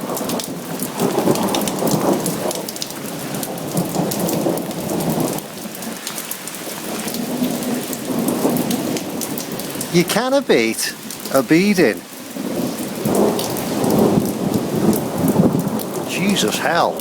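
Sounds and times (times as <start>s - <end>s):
heavy rain downpour: 0.0s - 17.0s
raindrops ticking on hard surfaces: 0.0s - 17.0s.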